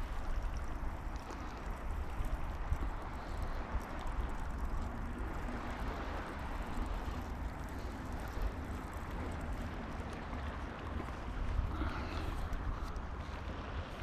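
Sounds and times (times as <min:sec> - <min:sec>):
sea water washing ashore: 0:00.0 - 0:14.0
wind buffeting microphone: 0:00.0 - 0:14.0.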